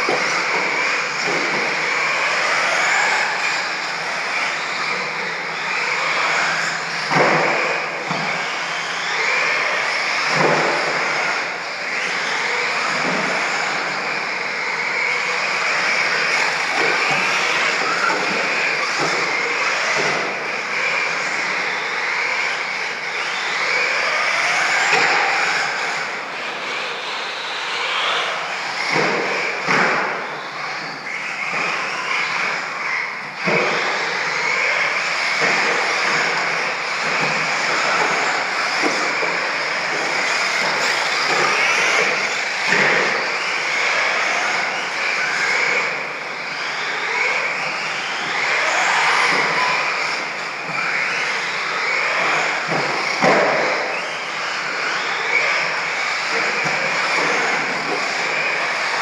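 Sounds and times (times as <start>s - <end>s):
toy truck motors whining: 0.0s - 59.0s.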